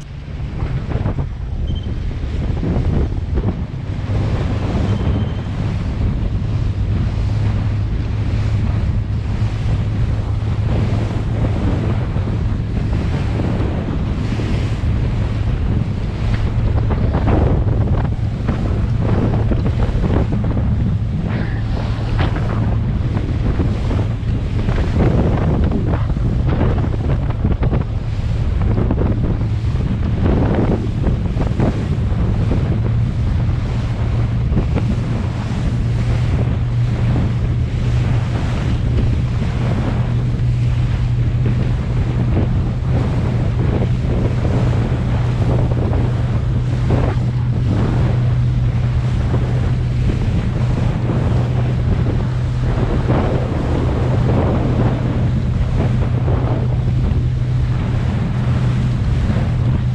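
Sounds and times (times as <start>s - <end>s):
boat engine drone: 0.0s - 59.9s
water splashing against hull: 0.0s - 59.9s
wind buffeting microphone: 0.0s - 59.9s.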